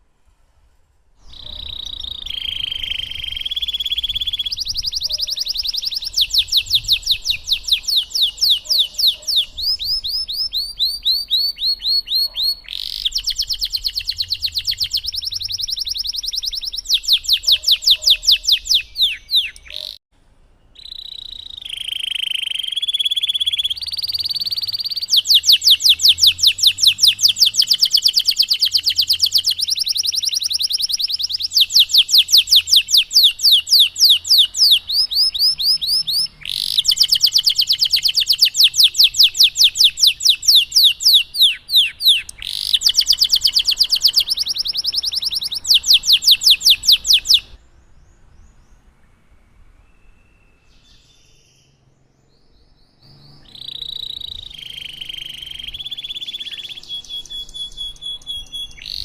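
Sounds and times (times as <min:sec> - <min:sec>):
canary singing trills: 0:01.2 - 0:20.0, 0:20.7 - 0:59.0.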